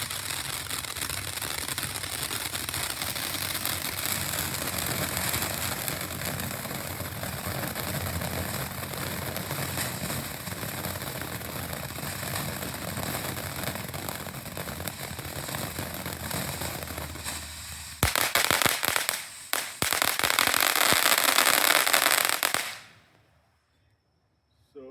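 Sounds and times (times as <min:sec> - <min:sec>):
firework fountain hissing and crackling: 0:00.0 - 0:23.1.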